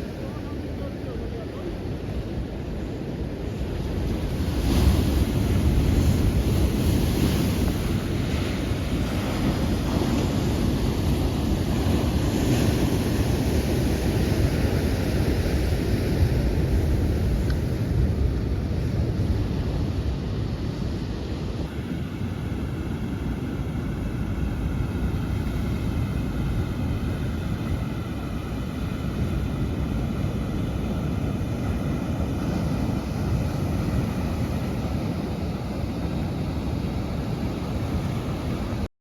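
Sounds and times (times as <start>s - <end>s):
wind buffeting microphone: 0.0s - 38.8s
surf washing on beach: 0.0s - 38.9s.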